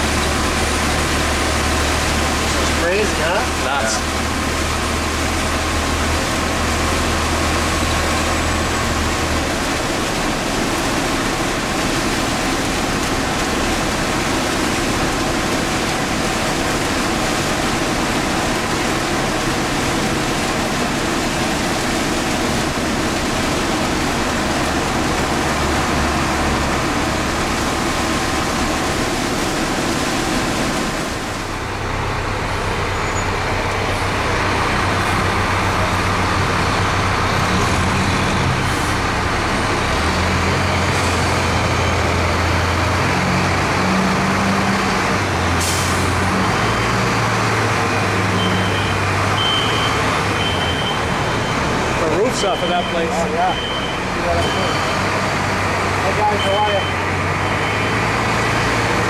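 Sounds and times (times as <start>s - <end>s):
engine and road drone in cab: 0.0s - 56.3s.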